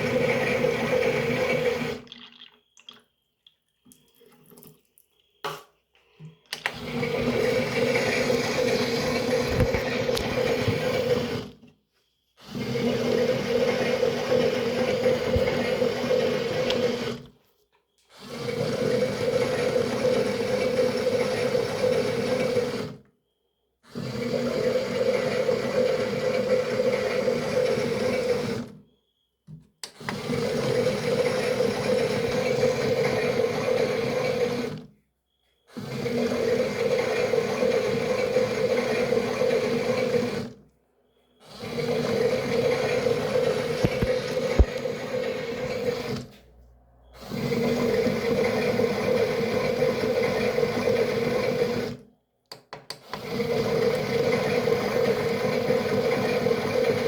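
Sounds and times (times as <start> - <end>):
toy washing machine motor humming: 0.0 - 2.4, 6.5 - 11.7, 12.4 - 17.4, 18.1 - 23.1, 23.9 - 28.8, 29.8 - 34.9, 35.7 - 40.6, 41.4 - 46.4, 47.1 - 52.0, 53.0 - 57.0.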